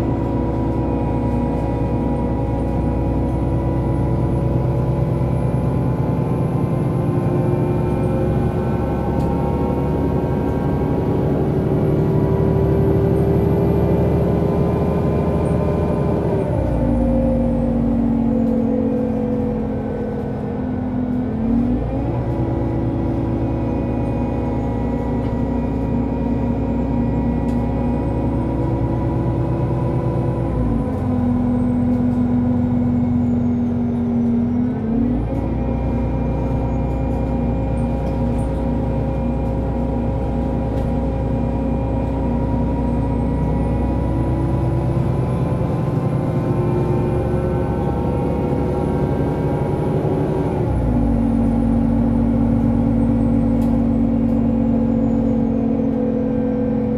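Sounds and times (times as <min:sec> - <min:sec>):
bus engine running: 0:00.0 - 0:56.9.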